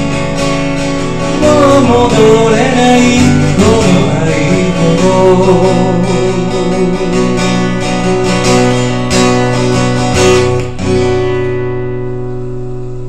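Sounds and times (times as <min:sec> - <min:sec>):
acoustic guitar strumming: 0:00.0 - 0:13.0
final guitar chord ringing: 0:00.0 - 0:13.0.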